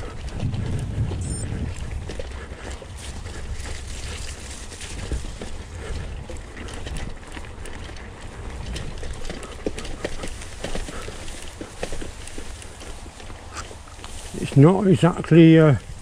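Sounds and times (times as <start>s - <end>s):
bicycle tyres rumbling on grass: 0.0s - 16.0s
bike rattling over bumps: 0.0s - 16.0s.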